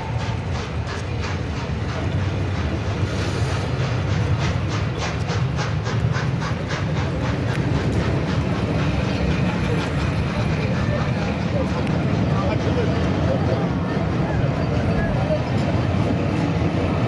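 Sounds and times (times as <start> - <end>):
steam train rumbling past: 0.0 - 17.0.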